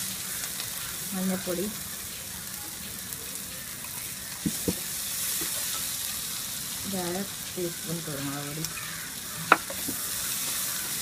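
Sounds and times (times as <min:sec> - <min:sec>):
masala sizzling in a frying pan: 0:00.0 - 0:11.0.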